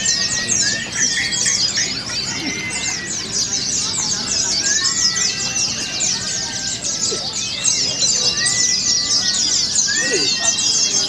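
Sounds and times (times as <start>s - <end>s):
bird whistled notes: 0.0s - 11.0s
caged birds chirping and trilling: 0.0s - 11.0s.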